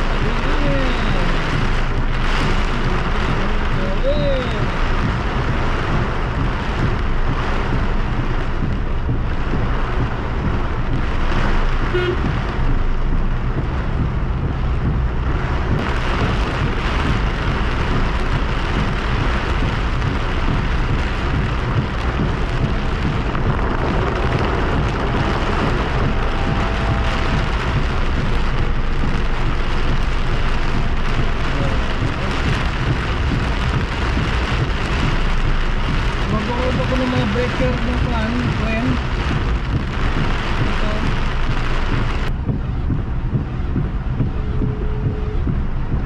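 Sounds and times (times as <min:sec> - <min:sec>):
heavy rain on a car: 0:00.0 - 0:46.0
low rumble: 0:00.0 - 0:46.0.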